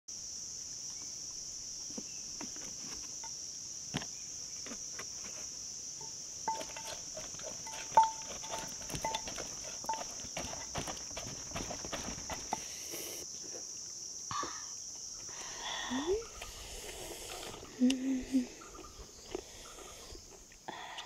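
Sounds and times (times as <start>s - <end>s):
insects droning: 0.1s - 21.0s.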